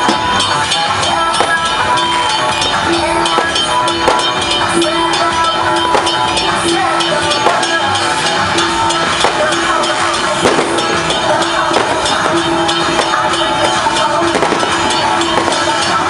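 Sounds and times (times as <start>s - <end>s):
loud music with drums: 0.0s - 16.0s.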